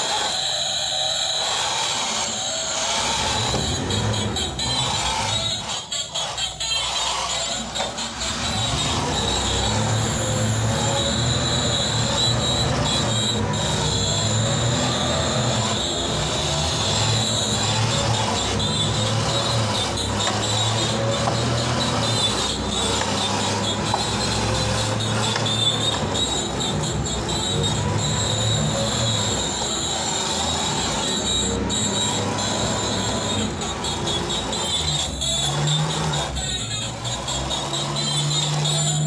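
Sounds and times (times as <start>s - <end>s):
small motors whining: 0.0s - 39.0s.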